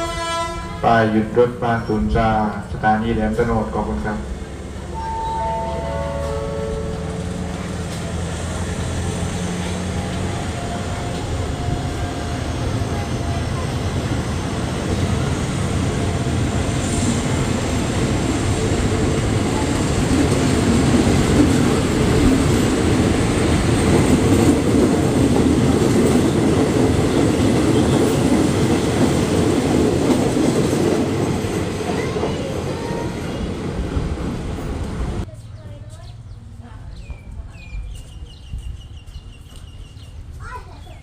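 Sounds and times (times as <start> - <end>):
train wheels on rails: 3.4 - 36.2.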